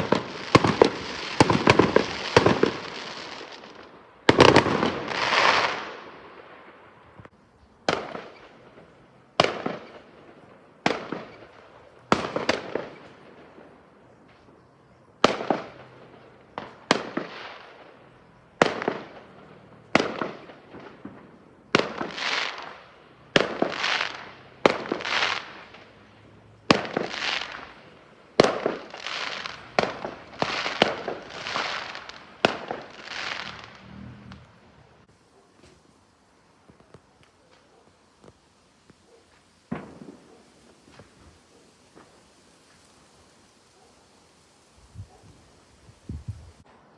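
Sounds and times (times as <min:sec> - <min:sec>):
fireworks bangs: 0:00.0 - 0:14.6, 0:15.2 - 0:35.9, 0:36.5 - 0:46.7.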